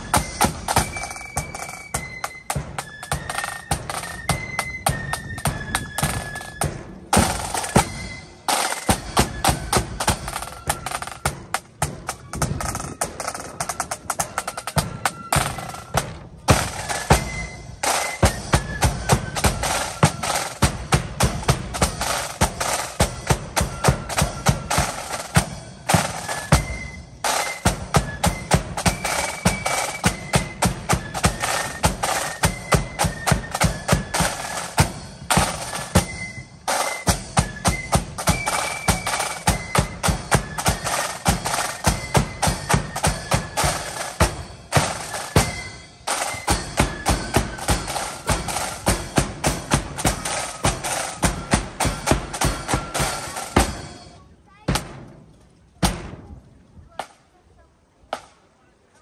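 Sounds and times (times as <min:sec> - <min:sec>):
flute band melody: 0:00.0 - 0:55.1
snare drum rolls: 0:00.0 - 0:56.4.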